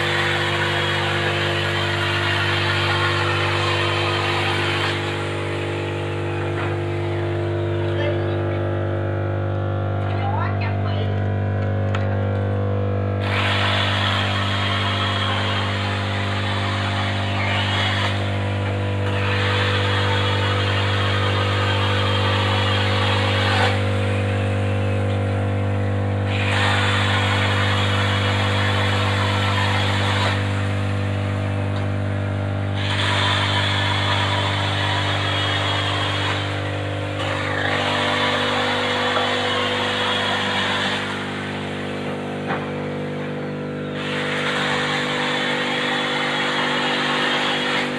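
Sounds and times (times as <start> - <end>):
harsh rushing grinding noise: 0.0 - 47.9
workshop machinery humming: 0.0 - 47.9.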